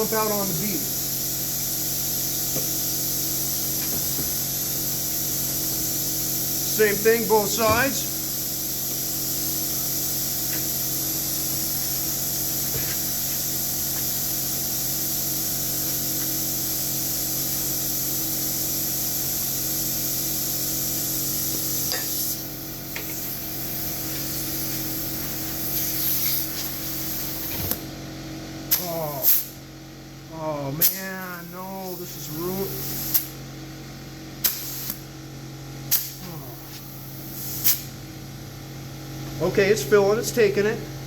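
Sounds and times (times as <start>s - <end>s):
compressed air hissing: 0.0s - 27.9s, 28.6s - 29.7s, 30.8s - 33.4s, 34.4s - 35.2s, 35.8s - 38.0s.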